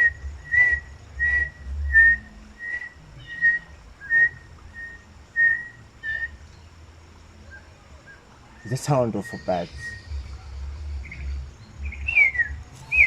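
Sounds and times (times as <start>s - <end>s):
bird whistling notes: 0.0s - 6.4s, 7.5s - 10.4s, 11.0s - 13.0s
low rumble: 0.0s - 7.3s, 9.7s - 13.0s.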